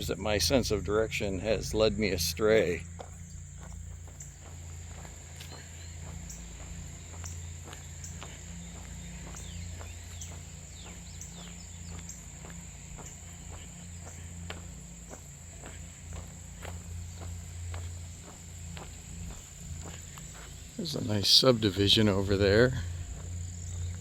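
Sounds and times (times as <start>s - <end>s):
footsteps on paved path: 0.0s - 24.0s
high-pitched insect chorus: 0.0s - 24.0s.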